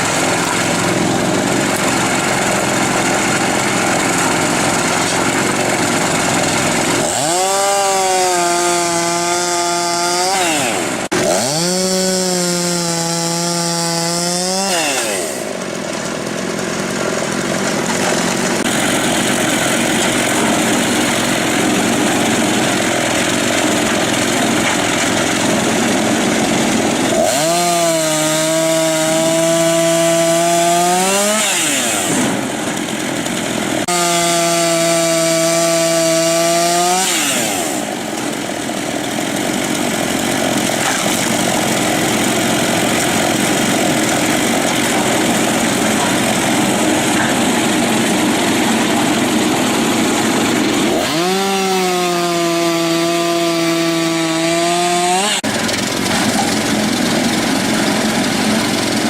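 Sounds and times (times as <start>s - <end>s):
power saw cutting wood: 0.0s - 59.0s.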